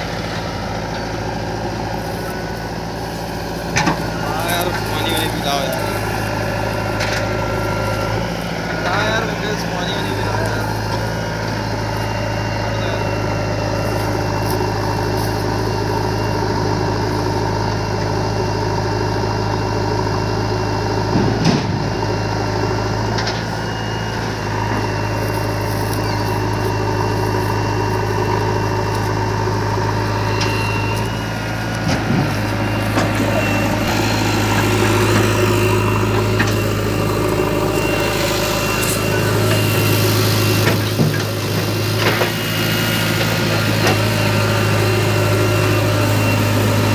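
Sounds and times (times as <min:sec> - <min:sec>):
diesel engines idling: 0:00.0 - 0:46.9.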